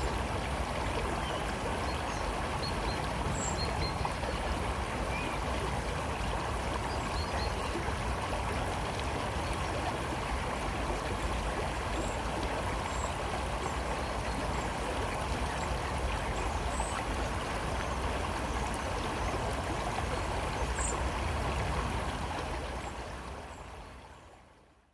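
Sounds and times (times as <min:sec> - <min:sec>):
river water flowing: 0:00.0 - 0:24.9.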